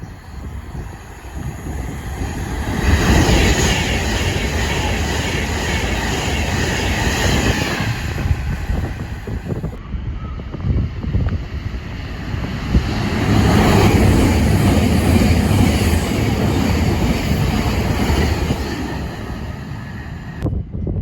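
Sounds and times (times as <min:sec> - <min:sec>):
train wheels rumbling on track: 0:00.0 - 0:20.9.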